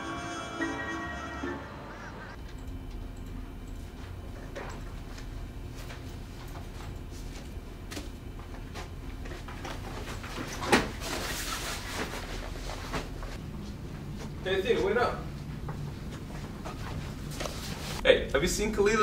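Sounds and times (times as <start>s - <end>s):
low room hum: 0.1s - 19.0s.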